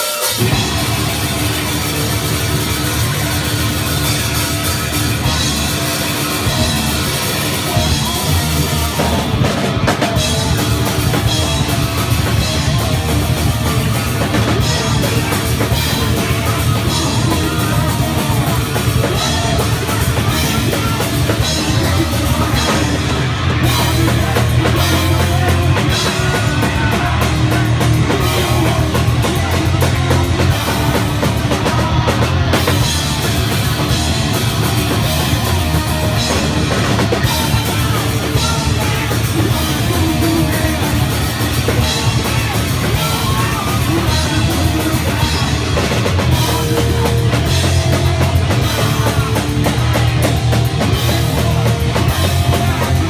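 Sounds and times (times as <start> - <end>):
bass guitar: 0.0 - 53.0
distorted electric guitar: 0.0 - 53.0
drum kit: 0.0 - 53.0.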